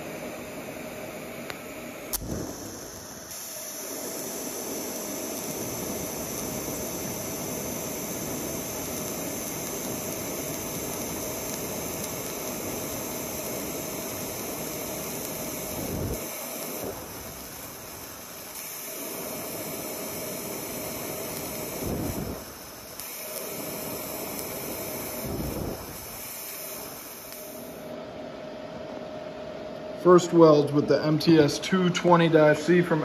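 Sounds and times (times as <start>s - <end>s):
arc welding hiss: 0.0s - 28.0s.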